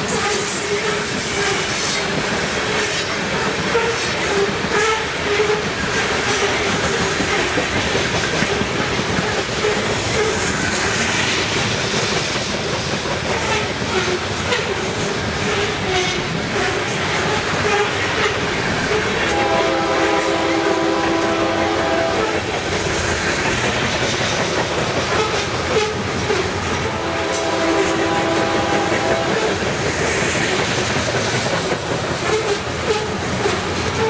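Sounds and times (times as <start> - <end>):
train wheels clattering on rails: 0.0 - 34.0.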